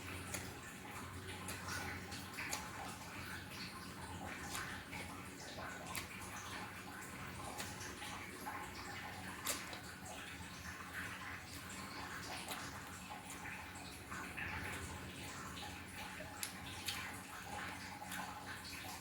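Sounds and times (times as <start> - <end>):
wet chewing and mouth smacking: 0.0 - 19.0.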